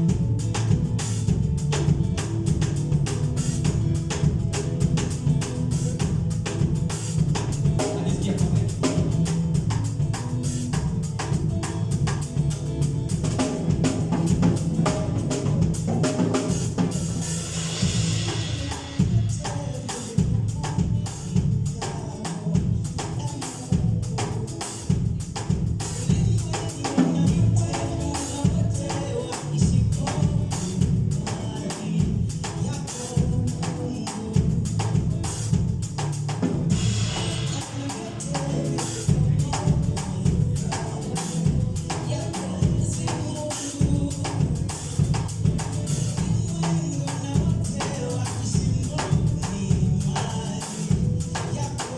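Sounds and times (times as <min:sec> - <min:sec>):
drum kit and bass beat: 0:00.0 - 0:51.9.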